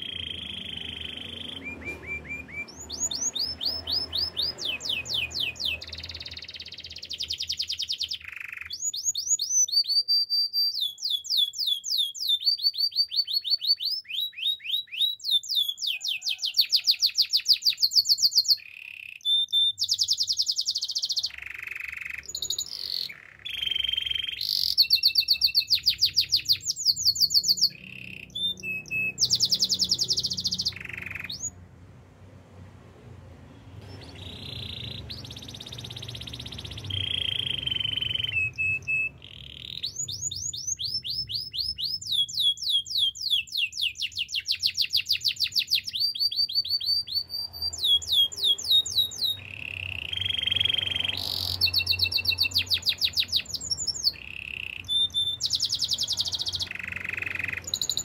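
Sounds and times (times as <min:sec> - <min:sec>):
canary singing trills: 0:00.0 - 0:31.6, 0:33.8 - 0:58.0.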